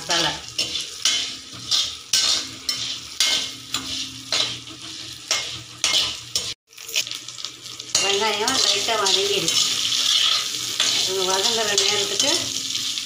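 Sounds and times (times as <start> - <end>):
food sizzling in oil: 0.0 - 13.0
metal spatula scraping a pan: 0.1 - 13.0.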